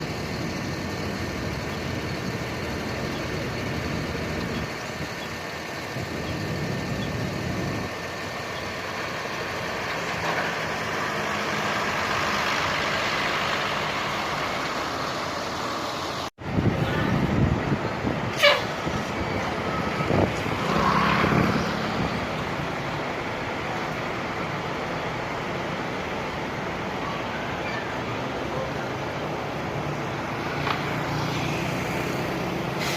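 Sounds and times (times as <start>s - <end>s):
heavy vehicles passing: 0.0s - 32.9s.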